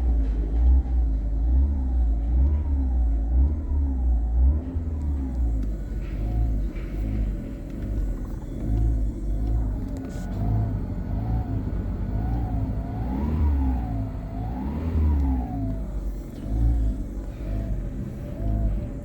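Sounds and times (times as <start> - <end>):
car engine revving: 0.2 - 19.0.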